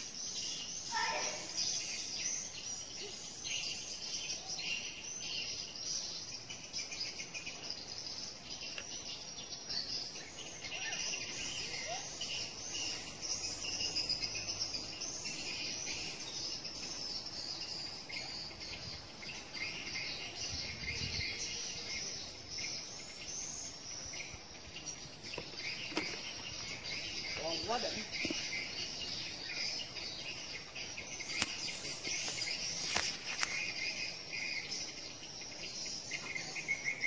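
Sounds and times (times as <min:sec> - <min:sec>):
shrill insect chorus: 0:00.0 - 0:37.0.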